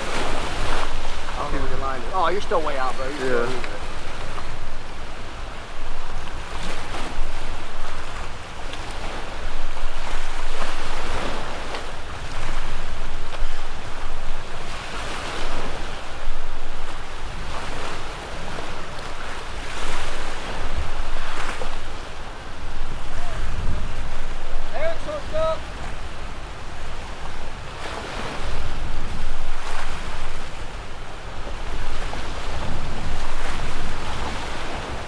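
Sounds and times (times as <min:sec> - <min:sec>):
surf splashing against rocks: 0:00.0 - 0:35.0
wind rumbling on microphone: 0:00.0 - 0:35.0.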